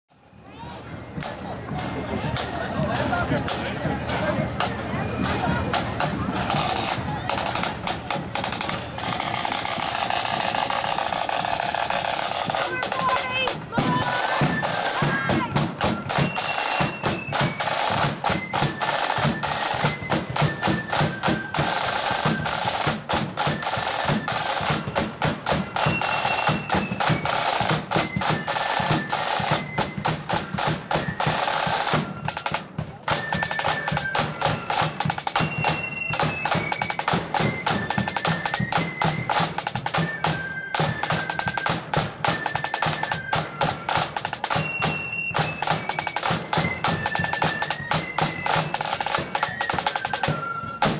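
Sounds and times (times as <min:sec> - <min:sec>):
flute melody: 0:00.2 - 0:50.9
snare drum rolls: 0:01.1 - 0:50.9.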